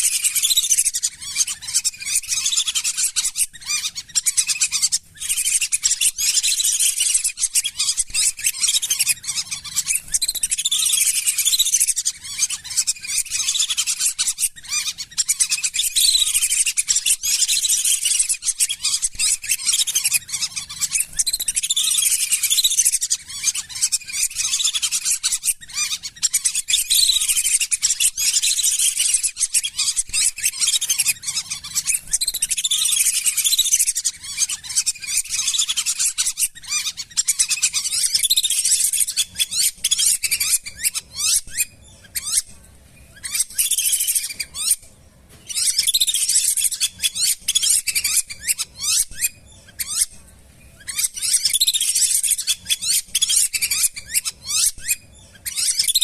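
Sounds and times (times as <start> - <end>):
ducks whistling calls: 0.0 - 42.5, 45.5 - 50.1, 50.8 - 56.0.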